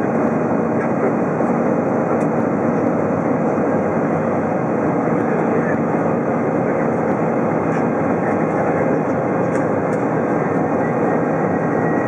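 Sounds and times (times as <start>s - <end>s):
jet engine cabin noise: 0.0s - 12.0s.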